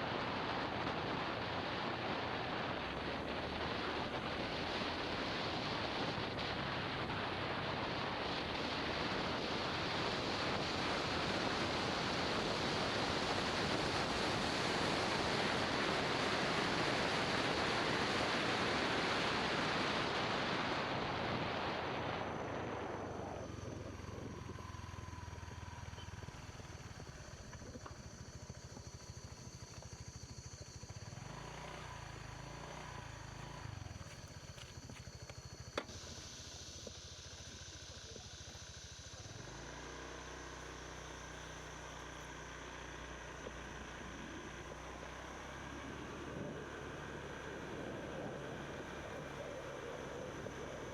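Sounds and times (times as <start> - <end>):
motorbike engine running: 0.0 - 50.9.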